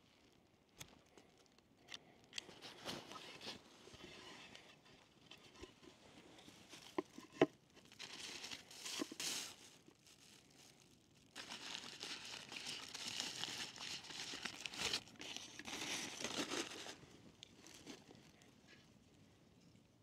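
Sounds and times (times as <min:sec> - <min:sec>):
crinkling and rustling: 0:00.0 - 0:20.0.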